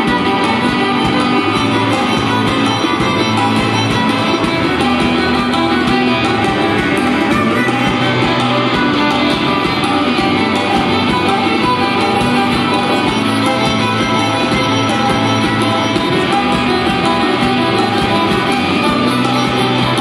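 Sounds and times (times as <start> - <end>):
drum kit beat: 0.0 - 20.0
electric guitars: 0.0 - 20.0
violin: 0.0 - 20.0.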